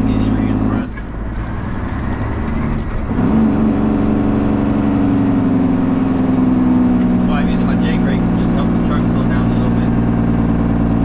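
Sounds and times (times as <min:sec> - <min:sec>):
loud truck diesel engine: 0:00.0 - 0:11.0.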